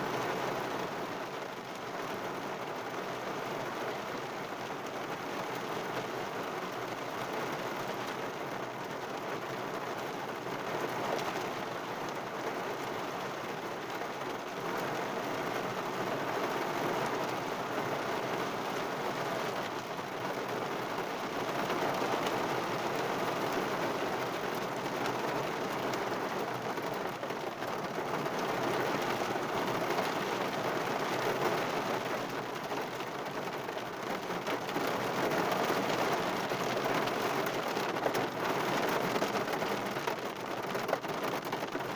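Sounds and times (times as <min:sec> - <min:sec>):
heavy rain on car roof: 0:00.0 - 0:41.9.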